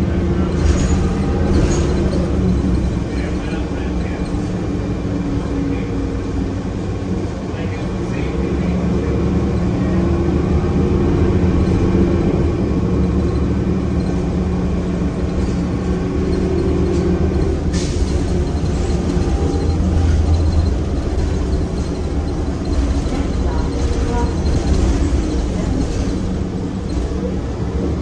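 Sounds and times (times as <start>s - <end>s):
bus engine running: 0.0s - 28.0s.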